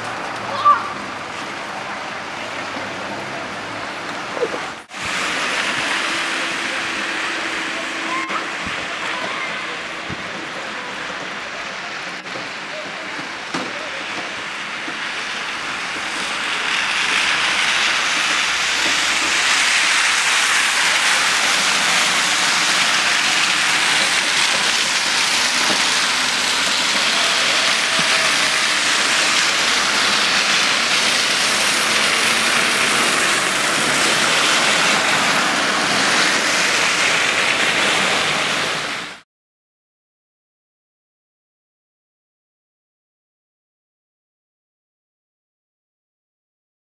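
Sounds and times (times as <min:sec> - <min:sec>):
steady rushing noise: 0:00.0 - 0:39.2.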